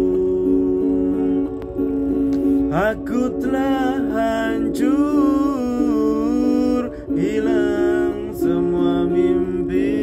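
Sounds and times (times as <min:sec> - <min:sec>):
man singing pop ballad: 0:00.0 - 0:01.4, 0:02.7 - 0:10.0
instrumental backing track: 0:00.0 - 0:10.0.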